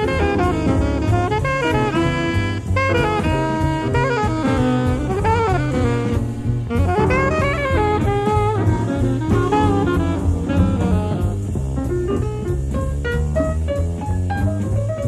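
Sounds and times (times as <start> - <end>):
jazz saxophone with drums and bass: 0.0 - 15.0.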